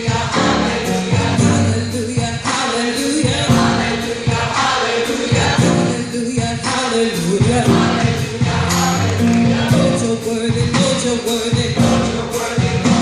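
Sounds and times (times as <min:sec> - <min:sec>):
band accompaniment with beat: 0:00.0 - 0:13.0
gospel choir singing: 0:00.0 - 0:13.0.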